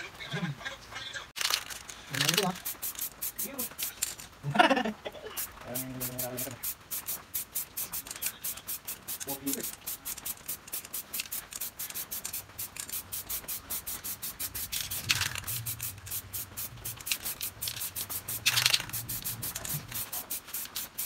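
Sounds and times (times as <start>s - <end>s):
spray can hissing: 1.4s - 4.1s, 5.3s - 21.0s.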